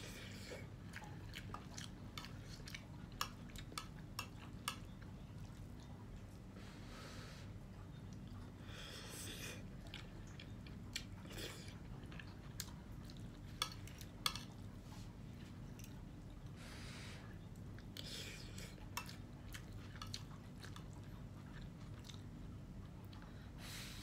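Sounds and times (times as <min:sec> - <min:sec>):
close-up chewing: 0:00.0 - 0:06.6, 0:07.6 - 0:16.6, 0:17.3 - 0:23.6.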